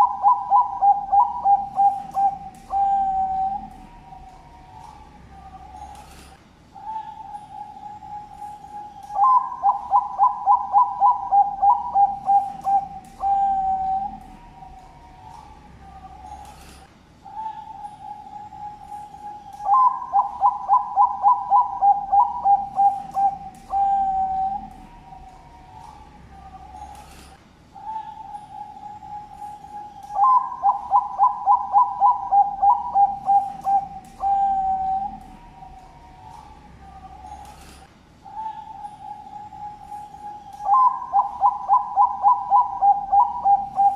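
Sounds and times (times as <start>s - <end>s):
other doves cooing: 0.0s - 5.0s, 5.6s - 14.8s, 16.0s - 43.9s
dove cooing: 0.0s - 43.9s.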